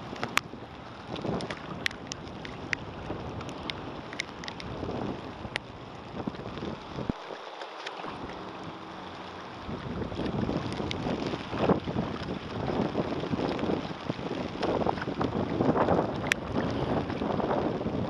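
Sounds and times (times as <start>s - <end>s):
wind buffeting microphone: 0.0s - 7.3s, 8.0s - 18.0s
raindrop ticks: 0.0s - 8.7s, 9.6s - 18.0s
rain and water: 0.0s - 18.0s.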